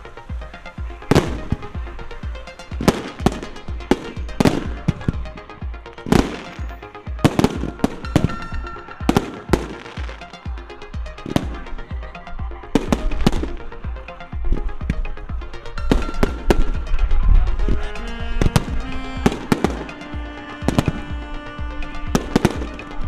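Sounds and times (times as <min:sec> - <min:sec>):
music with bass beat: 0:00.0 - 0:23.0
fireworks bangs: 0:00.3 - 0:14.0, 0:15.8 - 0:23.0.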